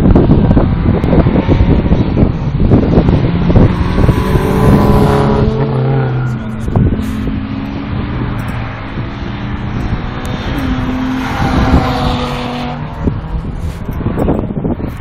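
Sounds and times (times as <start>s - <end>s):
wind buffeting microphone: 0.0s - 15.0s
race car passing at speed: 0.5s - 14.9s.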